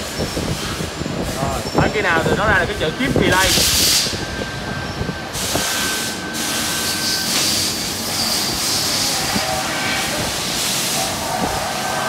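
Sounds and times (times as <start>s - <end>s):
low machinery hum: 0.0s - 12.0s
steady high tone: 1.6s - 12.0s.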